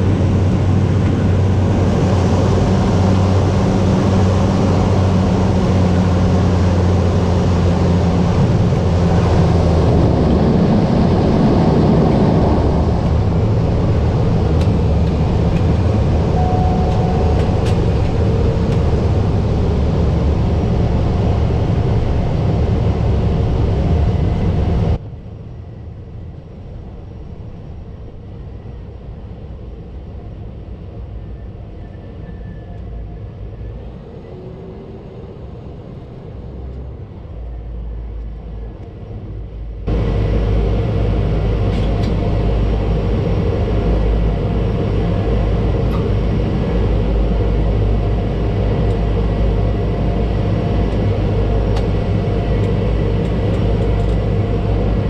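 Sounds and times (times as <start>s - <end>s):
turboprop engine droning: 0.0s - 55.0s.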